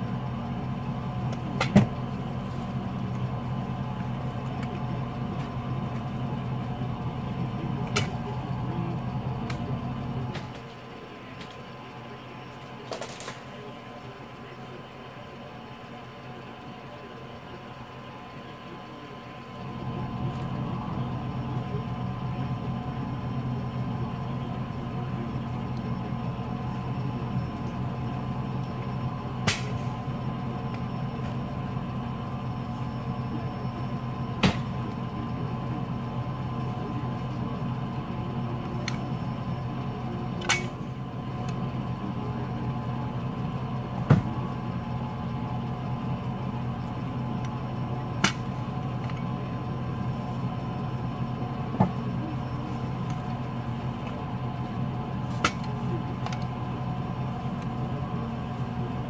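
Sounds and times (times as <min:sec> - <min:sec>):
vehicle engine hum: 0:00.0 - 0:59.0.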